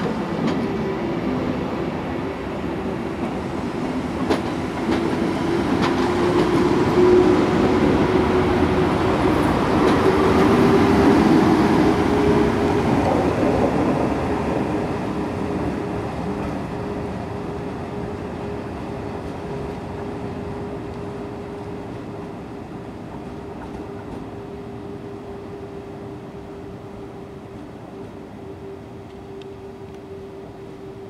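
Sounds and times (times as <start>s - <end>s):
electric train running noise: 0.0s - 31.0s.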